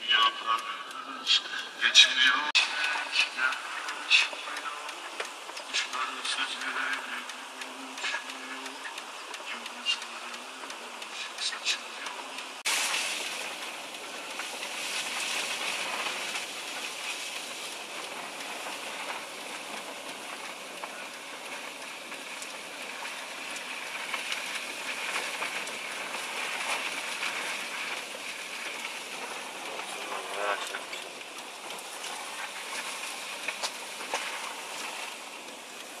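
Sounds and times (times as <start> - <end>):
tyres hissing on wet road: 0.0 - 36.0.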